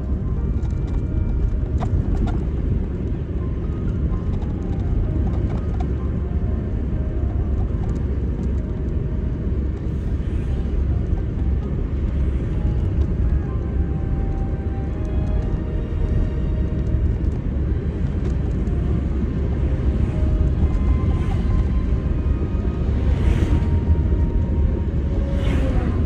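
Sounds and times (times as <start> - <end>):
car driving rumble: 0.0 - 26.0.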